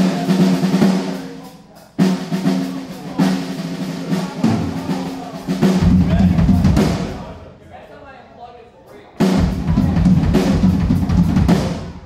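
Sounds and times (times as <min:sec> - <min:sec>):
drum rolls on snare and toms: 0:00.0 - 0:07.3, 0:09.2 - 0:12.0.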